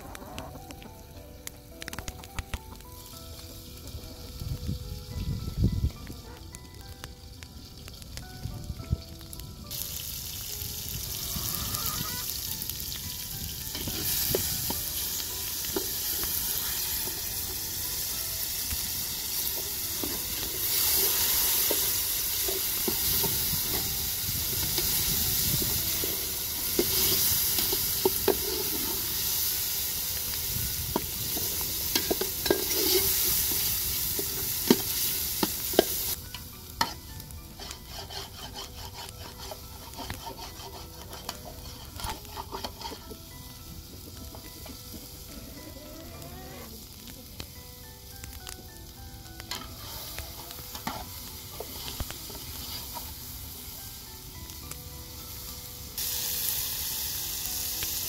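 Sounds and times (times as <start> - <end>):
vegetables sizzling in oil: 2.8 - 58.0.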